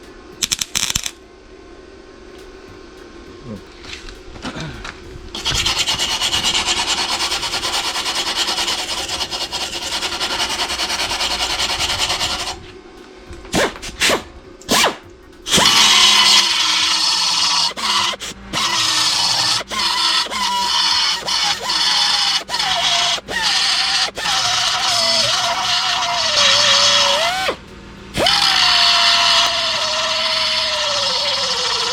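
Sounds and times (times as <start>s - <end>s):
welder crackling: 0.0s - 1.3s, 2.3s - 31.9s.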